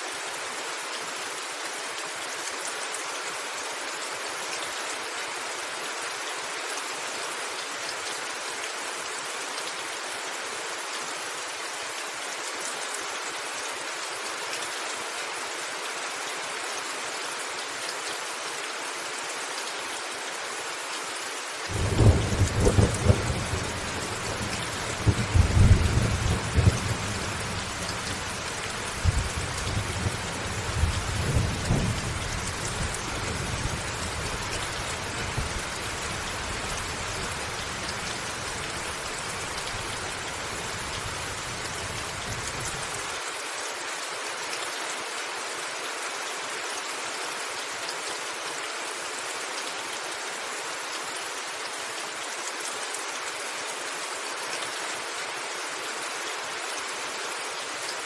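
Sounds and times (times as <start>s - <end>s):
rain pattering on a roof: 0.0s - 58.0s.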